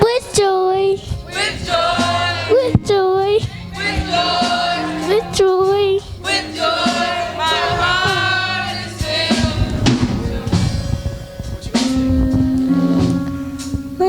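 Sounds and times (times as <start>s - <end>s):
instrumental accompaniment: 0.0s - 14.0s
youth choir singing gospel: 0.0s - 14.0s.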